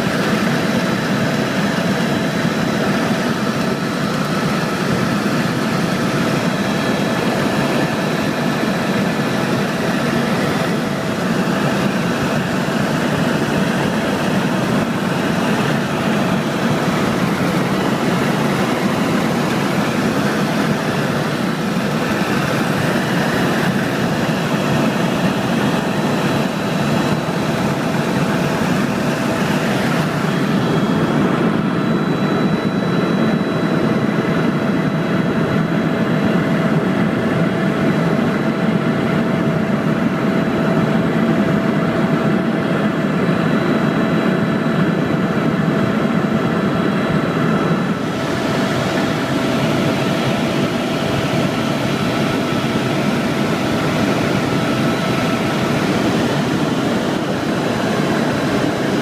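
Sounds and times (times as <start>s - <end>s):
helicopter engine and rotor noise: 0.0s - 59.0s.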